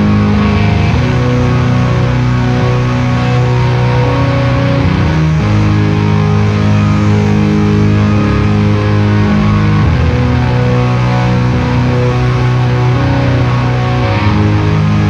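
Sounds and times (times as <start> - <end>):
electric guitar chords: 0.0 - 15.0
organ chords: 0.0 - 15.0.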